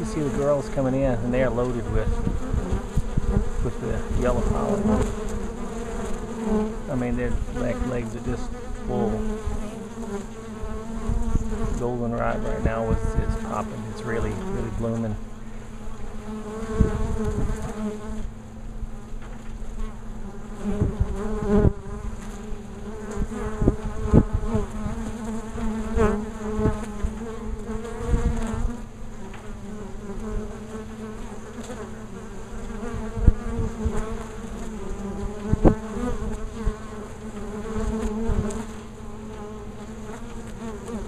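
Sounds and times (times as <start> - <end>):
honey bees buzzing: 0.0 - 41.0.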